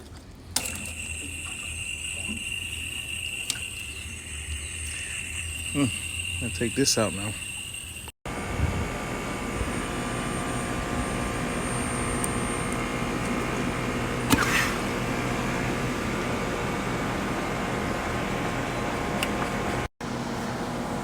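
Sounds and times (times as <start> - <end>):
machine hum and whir: 0.0 - 21.0.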